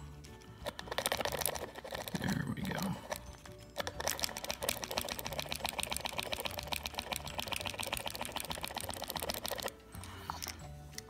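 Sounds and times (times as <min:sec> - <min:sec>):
paint marker clicking against cup: 0:00.3 - 0:11.0.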